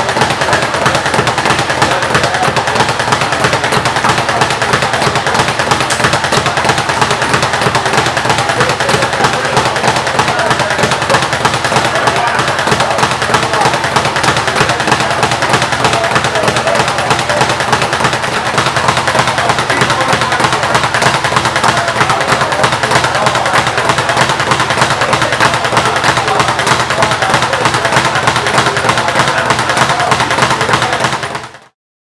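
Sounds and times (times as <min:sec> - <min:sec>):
speed bag rattling: 0:00.0 - 0:31.7.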